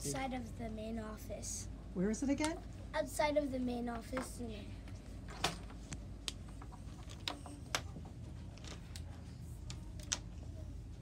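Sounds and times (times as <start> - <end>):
low room noise: 0.0 - 11.0.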